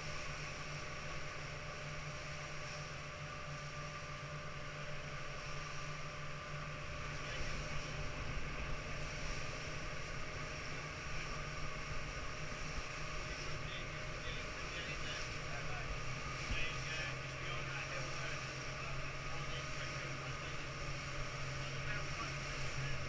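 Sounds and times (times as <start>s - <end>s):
motorboat engine drone: 0.0s - 23.0s
water rushing along hull: 0.0s - 23.0s.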